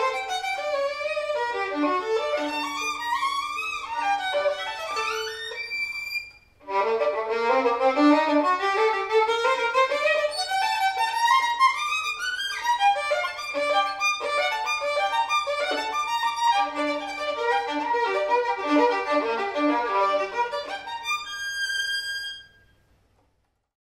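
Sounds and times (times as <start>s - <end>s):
solo violin playing fast notes: 0.0s - 22.6s.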